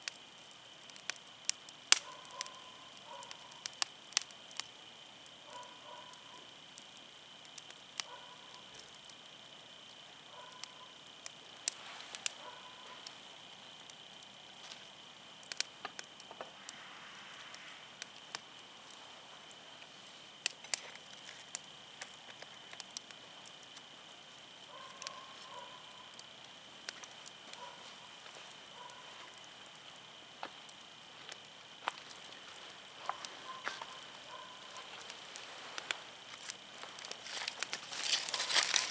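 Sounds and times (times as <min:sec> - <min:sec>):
campfire crackling and popping: 0:00.0 - 0:38.9
faint steady hiss: 0:00.0 - 0:38.9.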